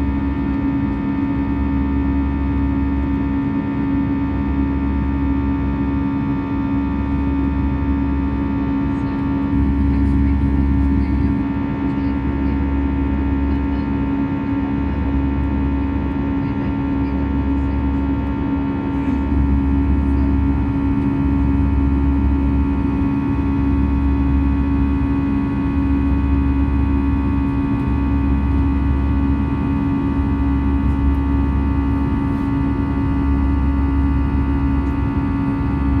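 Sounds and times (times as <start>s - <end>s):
aircraft cabin engine drone: 0.0s - 36.0s
constant humming tones: 0.0s - 36.0s
deep rumble: 4.8s - 36.0s.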